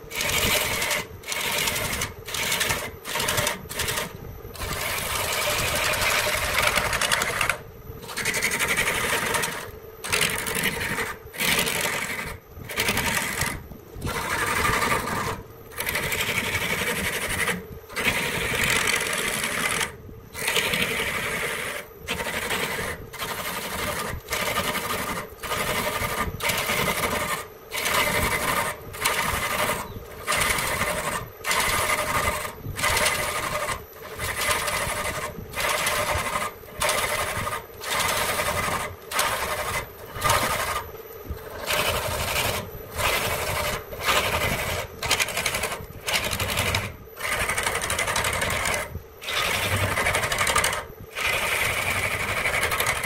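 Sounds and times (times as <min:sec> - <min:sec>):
power tool cutting wood: 0:00.0 - 0:53.0.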